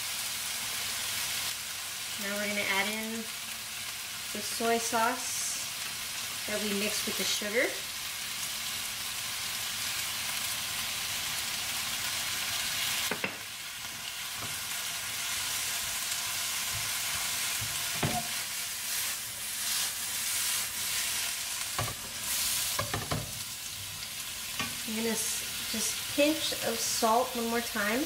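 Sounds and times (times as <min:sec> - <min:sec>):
vegetables sizzling in a pan: 0:00.0 - 0:28.0.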